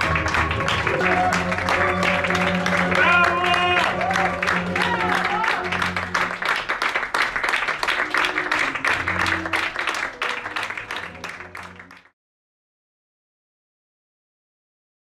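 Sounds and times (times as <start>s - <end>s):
audience applauding: 0.0s - 12.1s
music playing: 0.0s - 12.1s.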